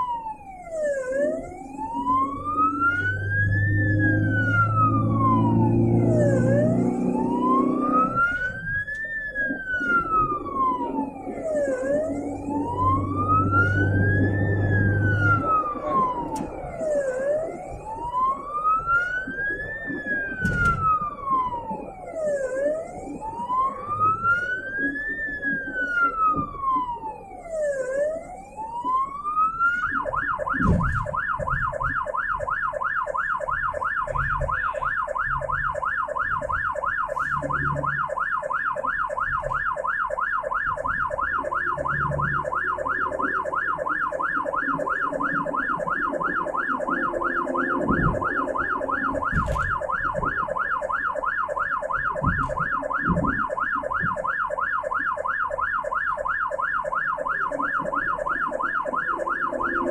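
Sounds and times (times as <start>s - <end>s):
ambulance siren wailing: 0.0s - 59.9s
vehicle engine and road rumble: 0.0s - 59.9s.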